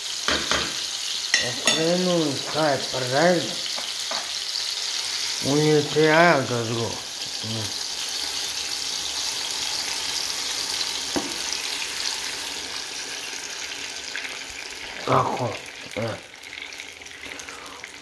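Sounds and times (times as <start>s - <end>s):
oil sizzling in a frying pan: 0.0s - 18.0s.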